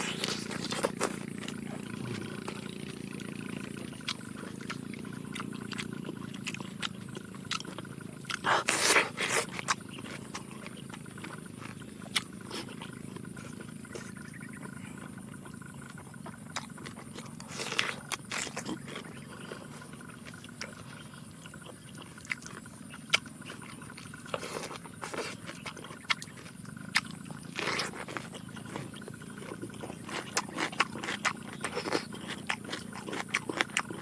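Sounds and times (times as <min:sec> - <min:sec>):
biting into cucumber: 0:00.0 - 0:34.0
chewing: 0:00.0 - 0:34.0.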